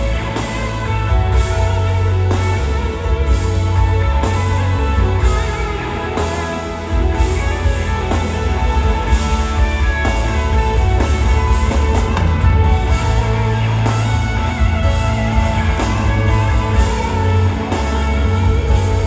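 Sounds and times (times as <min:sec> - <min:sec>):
rock band playing a ballad: 0:00.0 - 0:19.0
sustained electric guitar: 0:00.0 - 0:19.0.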